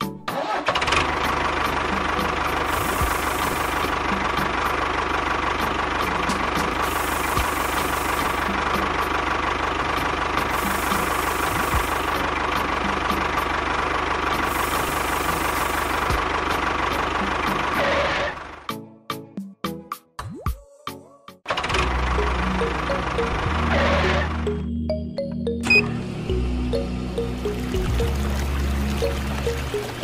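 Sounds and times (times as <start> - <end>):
engine running steadily: 0.0 - 18.7, 21.5 - 30.0.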